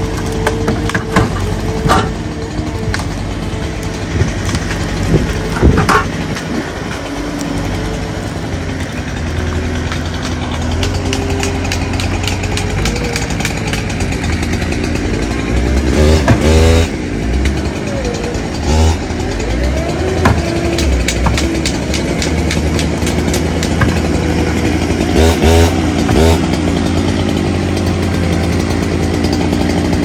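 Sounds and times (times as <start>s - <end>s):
hydraulic whine: 0.0s - 29.0s
diesel engine running under load: 0.0s - 30.0s.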